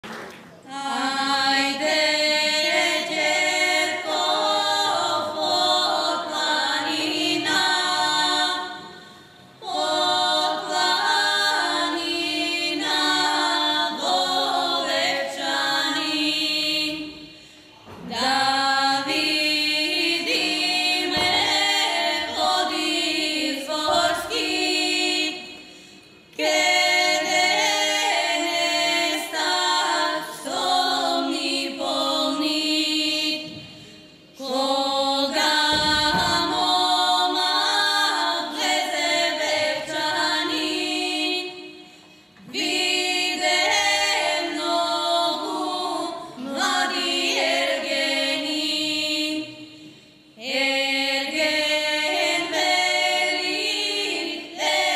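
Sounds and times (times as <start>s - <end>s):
women singing in harmony: 0.6s - 54.9s.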